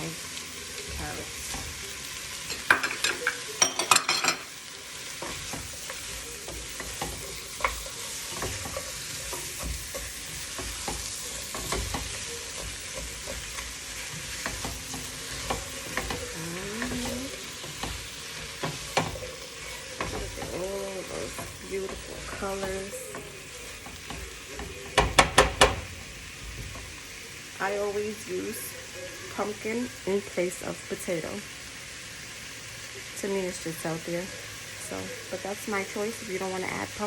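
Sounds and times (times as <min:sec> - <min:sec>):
food sizzling in a pot: 0:00.0 - 0:37.0.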